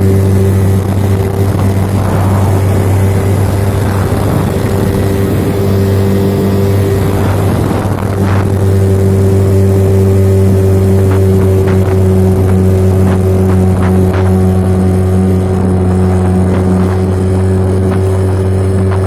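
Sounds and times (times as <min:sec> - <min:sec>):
outboard motor running: 0:00.0 - 0:19.0
rushing water and wind: 0:00.0 - 0:19.0.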